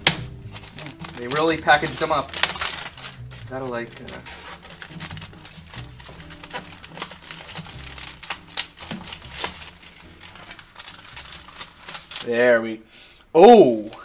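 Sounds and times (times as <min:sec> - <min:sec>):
packaging crinkling and clicking: 0:00.0 - 0:12.3.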